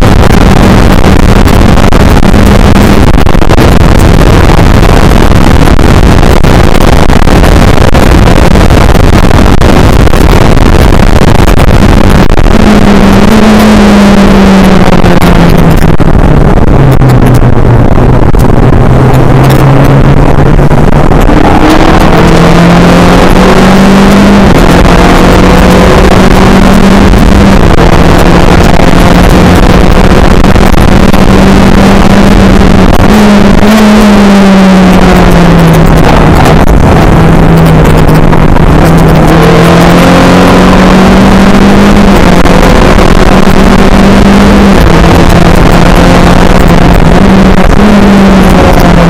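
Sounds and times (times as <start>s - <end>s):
race car engine: 0.0s - 49.0s
wind rush: 0.0s - 49.0s.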